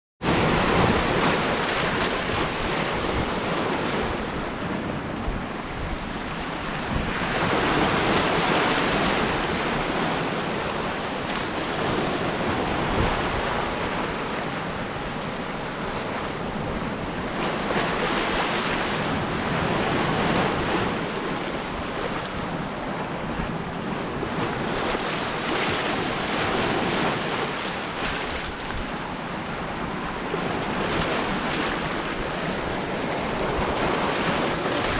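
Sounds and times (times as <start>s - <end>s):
sea surf breaking: 0.2s - 34.9s
wind buffeting microphone: 0.2s - 34.9s.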